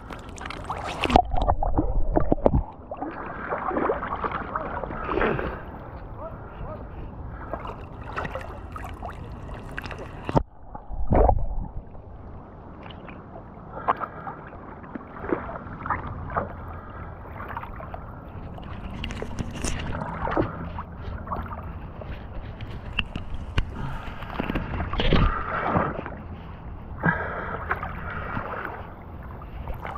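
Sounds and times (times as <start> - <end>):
small splashes: 0.0 - 5.9, 7.4 - 10.4, 12.8 - 26.5, 27.3 - 29.9
muffled splash: 0.0 - 29.9
water sloshing and lapping: 0.0 - 29.9.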